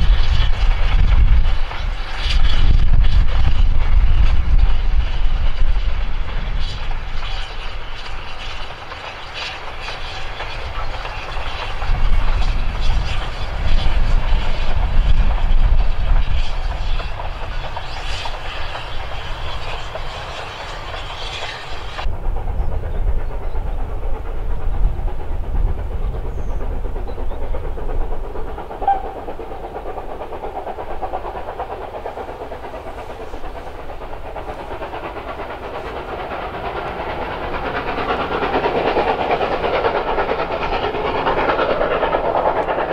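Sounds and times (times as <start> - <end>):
faint train rumble: 0.0 - 42.9
goods train wagons rolling past: 0.0 - 42.9
wheels clicking over rail joints: 0.0 - 42.9.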